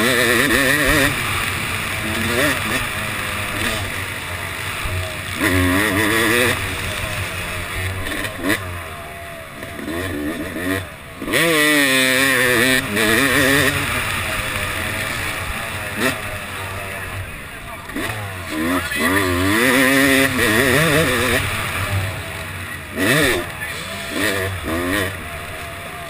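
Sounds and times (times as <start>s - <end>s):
motocross engine revving: 0.0s - 26.0s.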